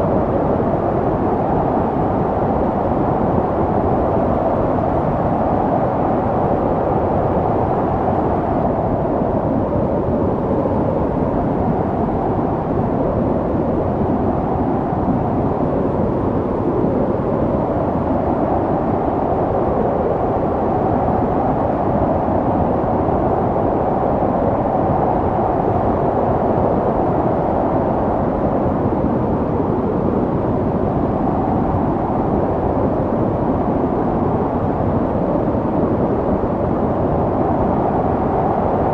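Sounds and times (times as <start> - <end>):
snowstorm wind blowing: 0.0 - 38.9.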